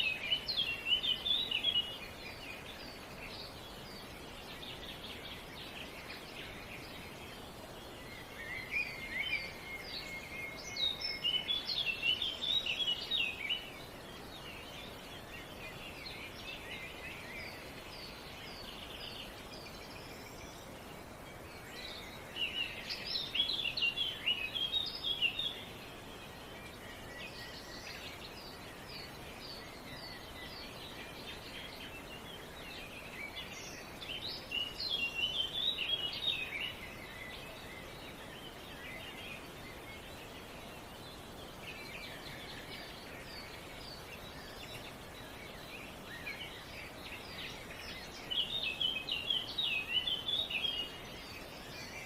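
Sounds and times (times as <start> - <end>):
songbird chirping: 0.0 - 52.0
steady background hiss: 0.0 - 52.0.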